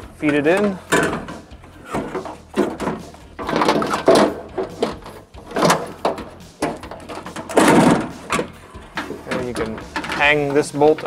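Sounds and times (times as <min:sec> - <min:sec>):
metal scraping and clattering in car door: 0:00.0 - 0:11.0.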